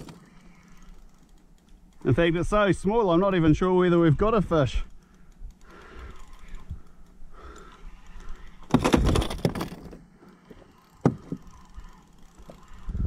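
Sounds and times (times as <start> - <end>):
fishing gear rustling and clicking: 0.0 - 13.0.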